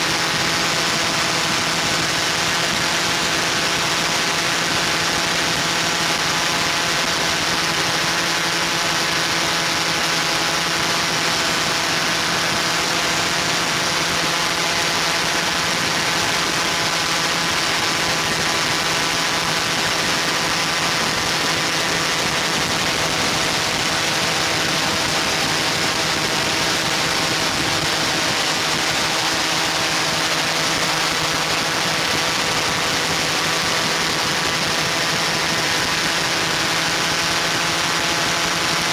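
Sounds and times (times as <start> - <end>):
drone motors humming: 0.0 - 38.9.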